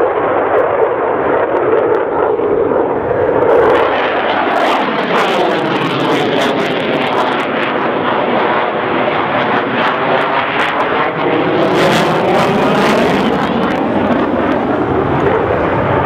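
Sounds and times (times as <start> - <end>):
helicopter turbine and rotor roar: 0.0 - 16.0.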